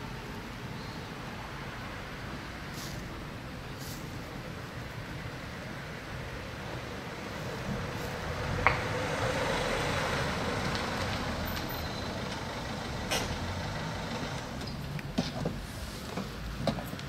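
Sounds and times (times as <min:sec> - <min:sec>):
road vehicle passing: 0:00.0 - 0:17.0.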